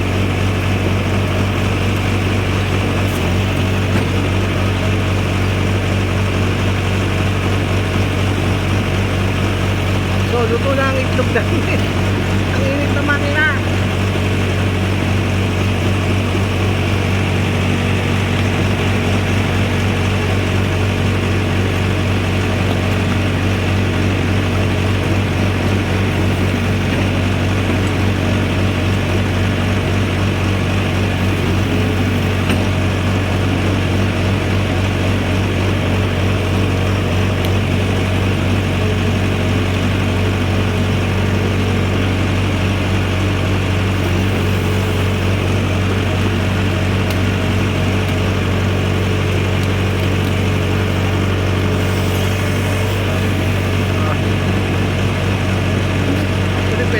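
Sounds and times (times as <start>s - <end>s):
diesel engine humming: 0.0s - 56.9s.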